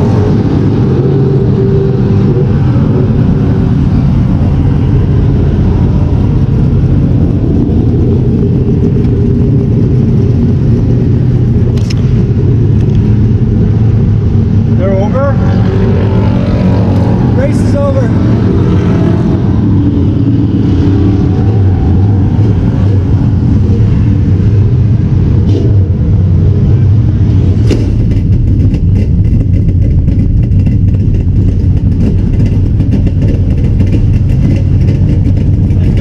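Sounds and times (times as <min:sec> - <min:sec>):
race car engine running: 0:00.0 - 0:36.0.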